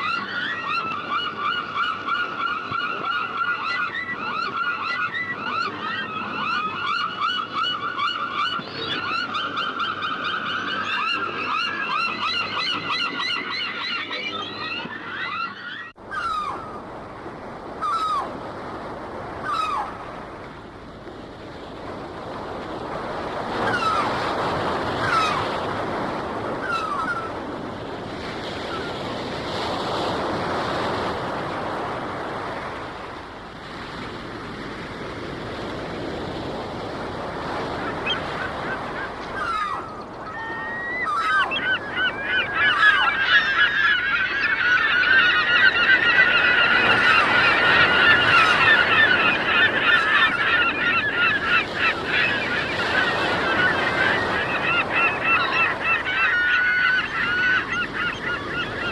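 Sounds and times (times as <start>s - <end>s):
gulls calling: 0.0s - 20.8s, 21.9s - 58.9s
ocean waves washing: 0.0s - 58.9s.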